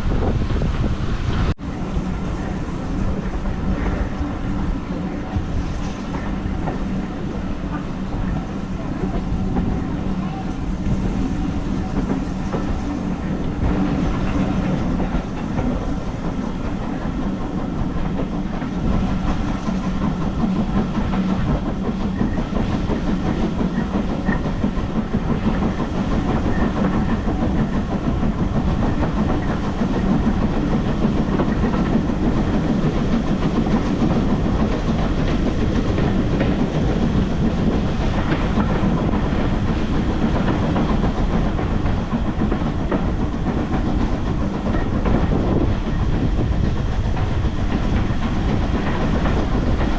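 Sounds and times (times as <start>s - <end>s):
steady train rumble: 0.0s - 49.9s
wheels clattering over rail joints: 1.7s - 49.9s.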